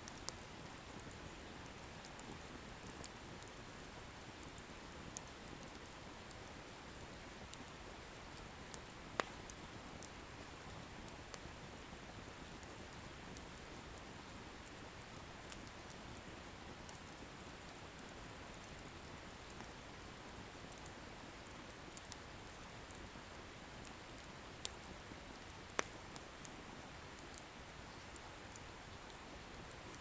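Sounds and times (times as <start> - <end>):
firewood crackles and pops: 0.1 - 30.0.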